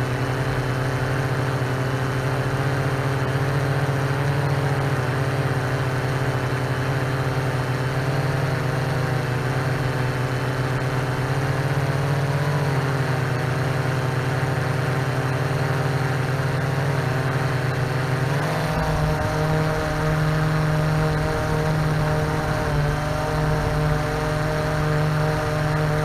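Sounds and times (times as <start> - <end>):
drone propellers humming: 0.0 - 26.0.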